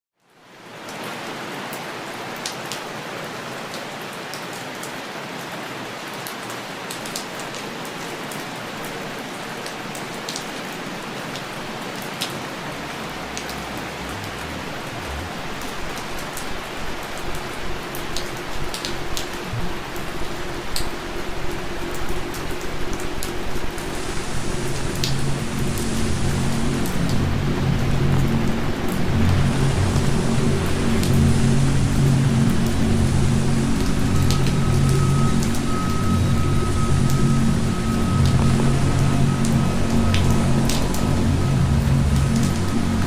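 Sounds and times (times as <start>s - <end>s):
heavy rain falling: 0.3s - 43.0s.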